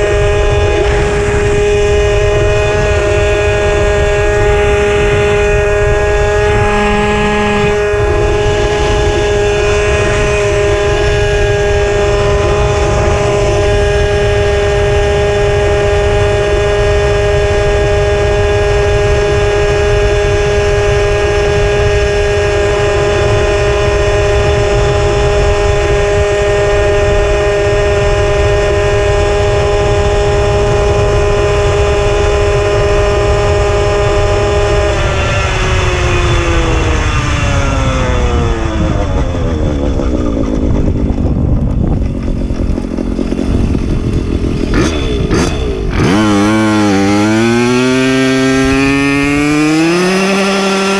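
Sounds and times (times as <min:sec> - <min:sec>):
moped engine buzzing: 0:00.0 - 0:50.9
wind rumble on microphone: 0:00.0 - 0:50.9.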